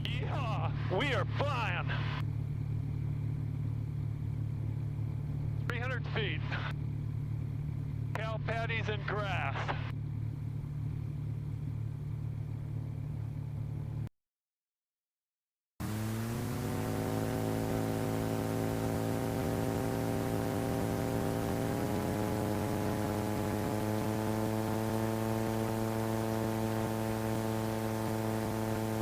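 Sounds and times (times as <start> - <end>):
airplane engine drone: 0.0 - 14.1, 15.8 - 29.0.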